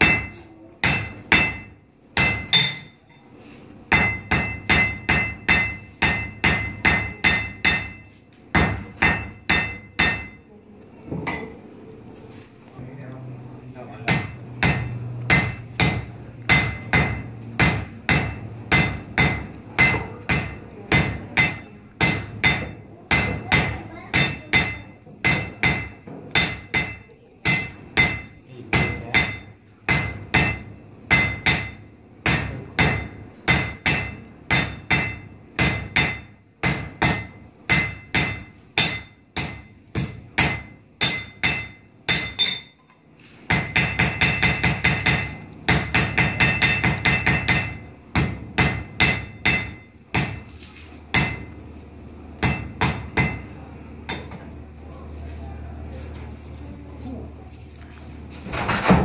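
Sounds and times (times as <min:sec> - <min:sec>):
hammer striking iron on anvil: 0:00.0 - 0:03.2, 0:03.9 - 0:10.5, 0:14.1 - 0:50.5, 0:51.1 - 0:51.6, 0:52.4 - 0:53.5.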